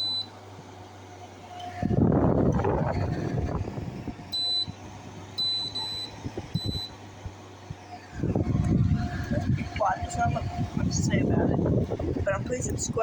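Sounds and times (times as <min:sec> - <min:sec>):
air conditioner hum: 0:00.0 - 0:13.0
low rumbling noise: 0:01.6 - 0:05.4, 0:06.2 - 0:13.0.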